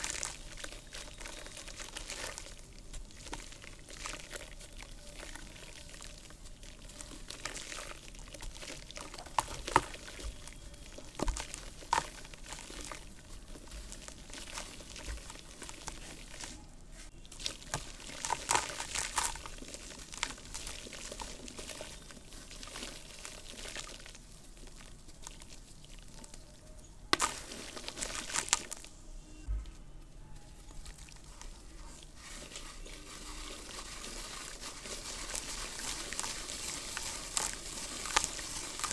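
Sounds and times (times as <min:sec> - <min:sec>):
dry dirt crumbling: 0:00.0 - 0:38.9.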